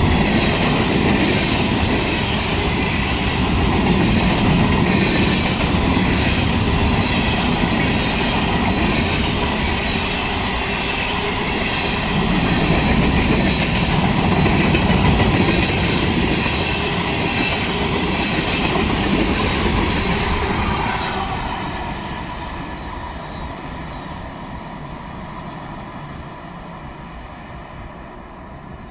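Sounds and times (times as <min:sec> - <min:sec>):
train wheels on rail: 0:00.0 - 0:28.9.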